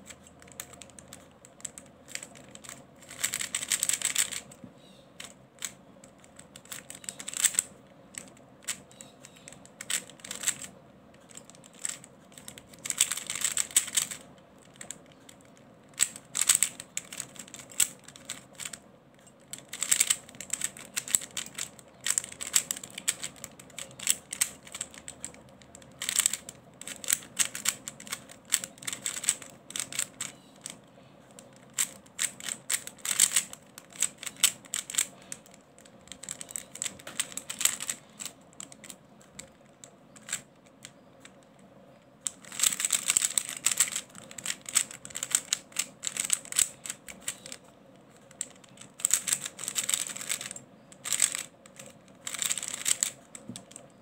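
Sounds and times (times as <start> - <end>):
puzzle cube clicking as turned: 0.0 - 4.6, 5.2 - 39.6, 40.2 - 41.4, 42.2 - 47.6, 48.2 - 53.9.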